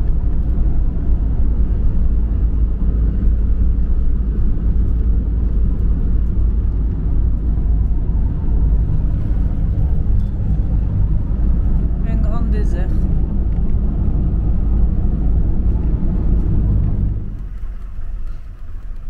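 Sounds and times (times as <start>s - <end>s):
van engine and tyres rumbling: 0.0s - 19.0s.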